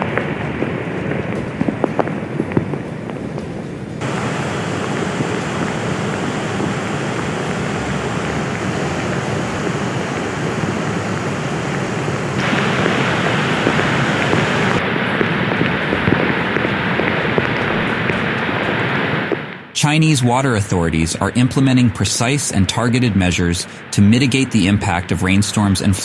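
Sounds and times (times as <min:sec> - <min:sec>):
floodwater rushing: 0:03.9 - 0:26.0.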